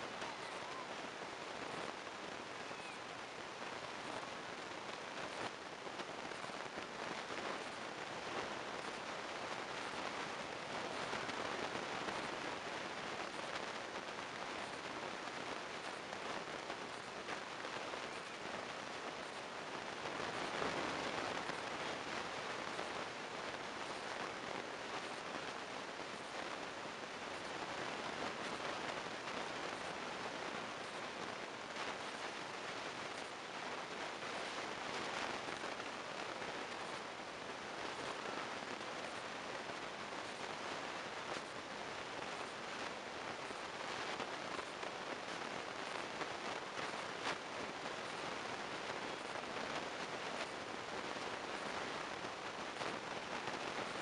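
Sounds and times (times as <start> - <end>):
hiss-like outdoor ambience: 0.0 - 54.0.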